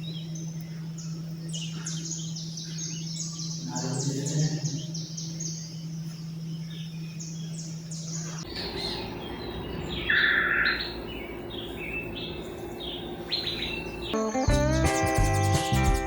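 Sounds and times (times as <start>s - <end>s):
low steady hum: 0.0s - 16.0s
songbirds chirping: 0.0s - 16.0s.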